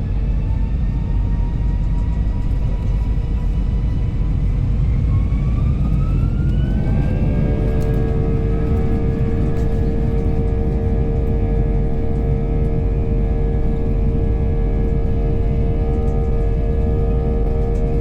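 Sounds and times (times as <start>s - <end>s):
jet engines spooling up: 0.1s - 18.0s.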